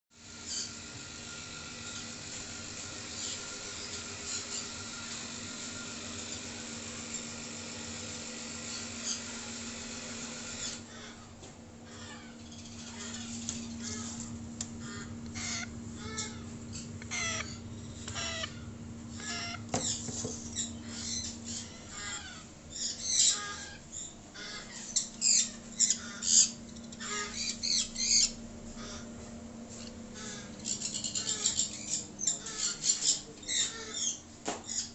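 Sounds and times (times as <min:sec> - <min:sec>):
fan humming: 0:00.1 - 0:34.9
parrot chicks squawking: 0:00.2 - 0:34.9.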